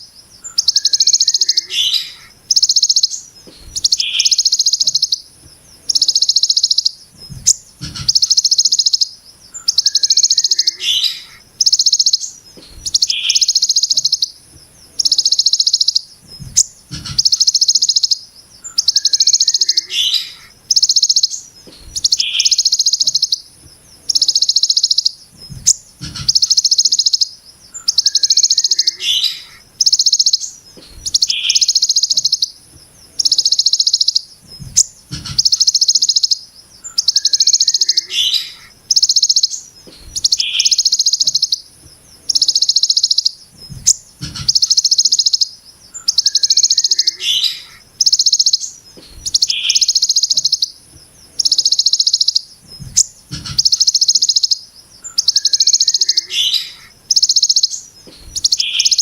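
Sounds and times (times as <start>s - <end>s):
songbird buzzing trill: 0.0s - 59.0s.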